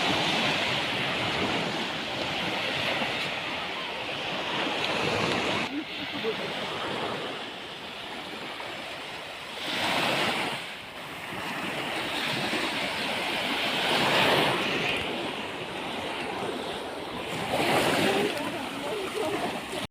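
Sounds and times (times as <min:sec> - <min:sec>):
sea waves washing onto shore: 0:00.0 - 0:19.9.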